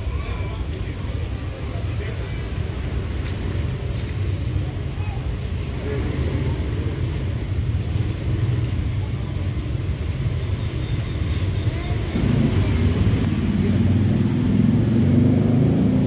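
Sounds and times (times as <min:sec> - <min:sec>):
faint voices: 0:00.0 - 0:14.1.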